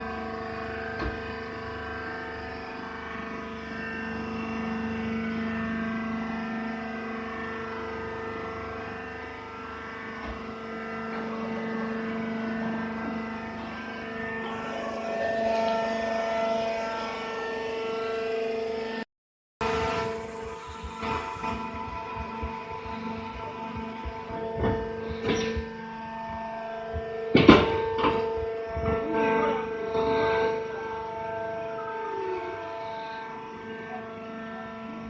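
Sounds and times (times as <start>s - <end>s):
hydraulic baler drone: 0.0s - 35.0s.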